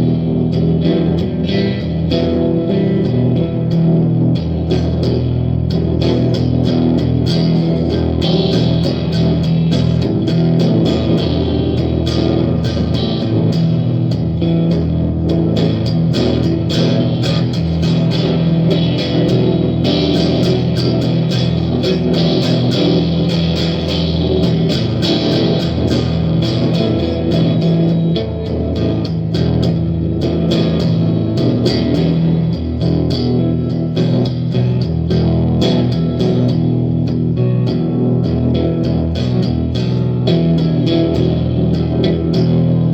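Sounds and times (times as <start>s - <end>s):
electric guitar picked notes: 0.0s - 42.9s.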